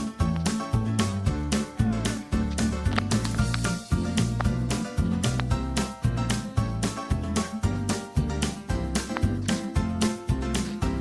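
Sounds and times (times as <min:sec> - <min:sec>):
music with regular beat: 0:00.0 - 0:11.0.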